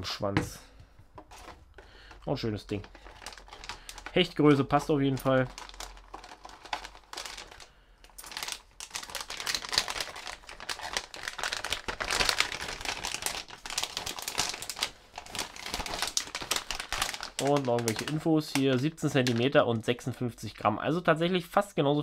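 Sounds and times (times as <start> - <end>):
plastic bag crinkling: 1.2 - 19.6.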